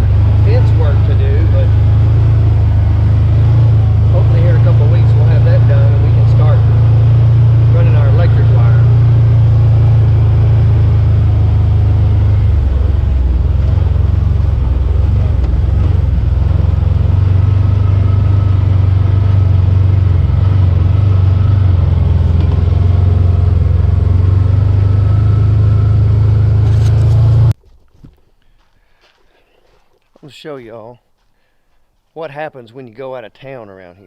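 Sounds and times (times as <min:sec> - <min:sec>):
vehicle engine rumbling: 0:00.0 - 0:27.6.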